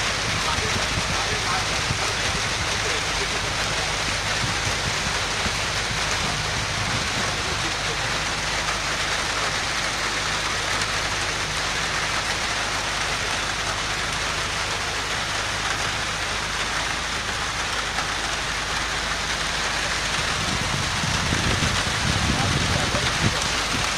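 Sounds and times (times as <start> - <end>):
boat engine humming: 0.0 - 23.9
steady rain falling: 0.0 - 23.9.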